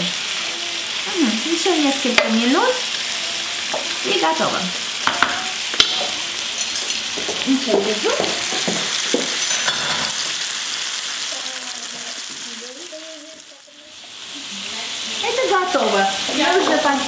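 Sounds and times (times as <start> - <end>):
vegetables sizzling in a frying pan: 0.0 - 17.0.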